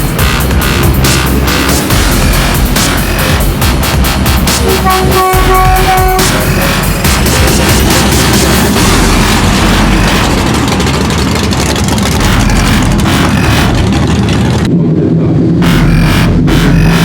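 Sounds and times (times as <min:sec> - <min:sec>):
truck engine driving by: 0:00.0 - 0:17.0.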